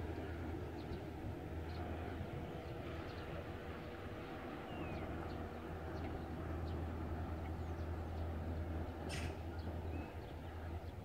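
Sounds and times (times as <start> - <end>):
songbirds chirping: 0.0 - 11.0
steady low rumble: 0.0 - 11.0.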